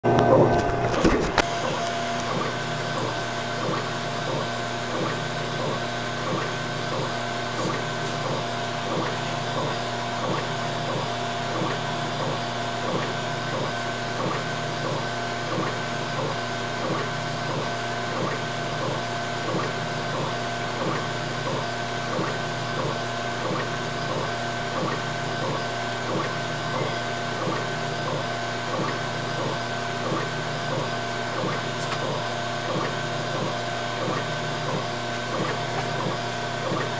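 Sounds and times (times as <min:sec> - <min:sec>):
machine hum: 0:00.0 - 0:36.9.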